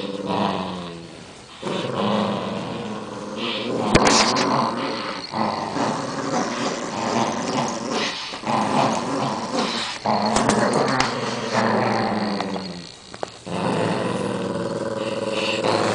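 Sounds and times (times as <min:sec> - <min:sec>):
dogs growling: 0:00.0 - 0:15.9.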